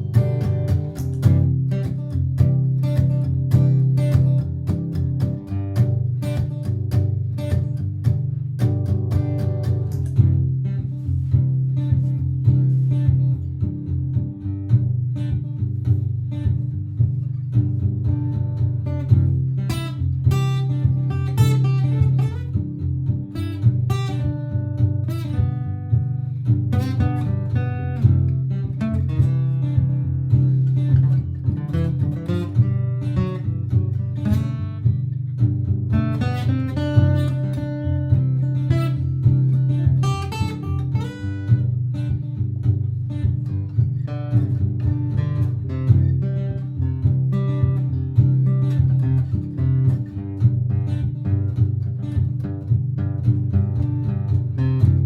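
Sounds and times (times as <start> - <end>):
acoustic guitar plucked notes: 0.0 - 55.0
strummed guitar rhythm: 0.0 - 55.0.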